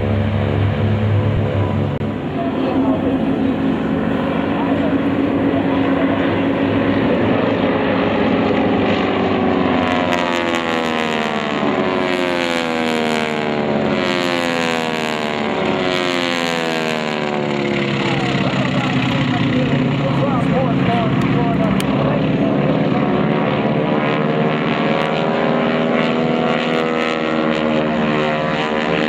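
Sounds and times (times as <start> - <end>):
propeller aircraft radial engines: 0.0 - 29.0.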